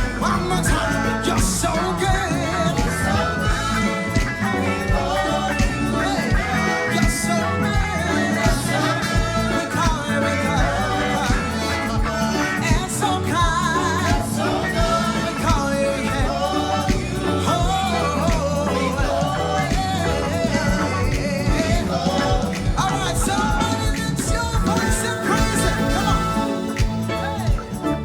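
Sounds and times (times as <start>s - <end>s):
bass: 0.0s - 28.0s
drum beat: 0.0s - 28.0s
person singing: 0.0s - 28.0s.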